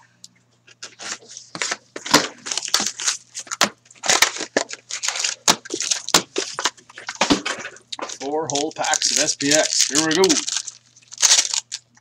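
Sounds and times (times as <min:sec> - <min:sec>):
plastic wrap crinkling: 0:00.8 - 0:12.0.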